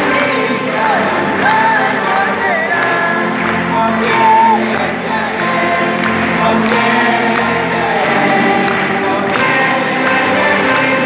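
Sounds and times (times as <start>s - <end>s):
crowd singing along: 0.0s - 11.0s
person singing into microphone: 0.0s - 11.0s.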